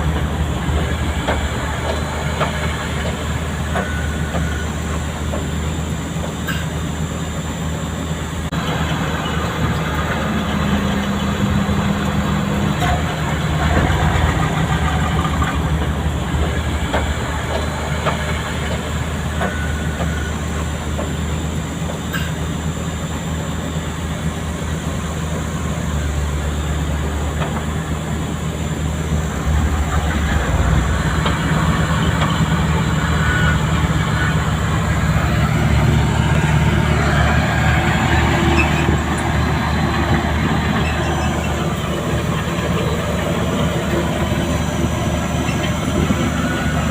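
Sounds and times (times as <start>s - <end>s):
diesel machinery running: 0.0s - 46.9s.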